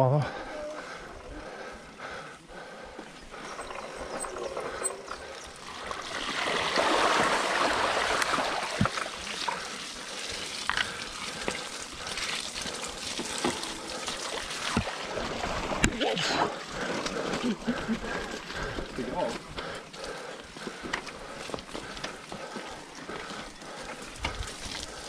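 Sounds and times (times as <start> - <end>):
bike tyres rushing on trail: 0.3 - 25.0.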